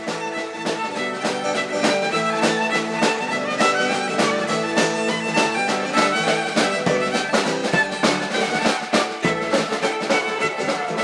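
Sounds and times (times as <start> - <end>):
fiddle and guitar folk tune: 0.0 - 11.0.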